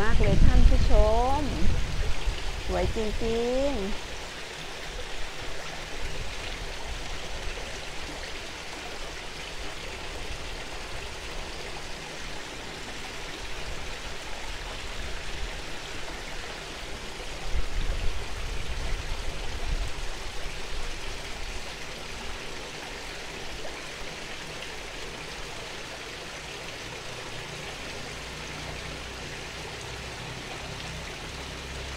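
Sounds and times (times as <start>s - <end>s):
waterfall spilling into pond: 0.0s - 31.9s.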